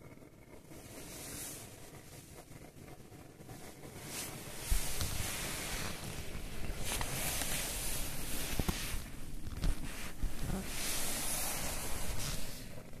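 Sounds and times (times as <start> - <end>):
rustling and handling noise: 0.6 - 13.0
rushing hiss: 0.7 - 13.0.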